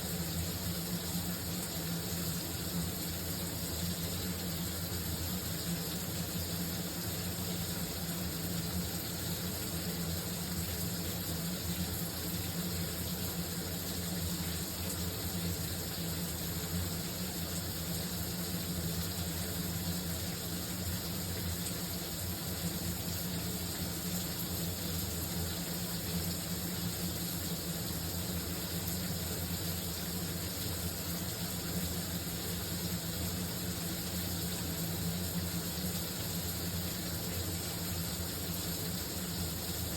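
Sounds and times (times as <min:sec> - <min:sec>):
shower running: 0:00.0 - 0:39.9.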